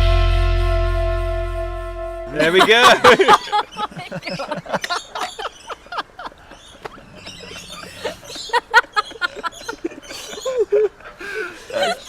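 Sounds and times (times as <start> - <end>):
birds chirping: 2.3 - 12.0.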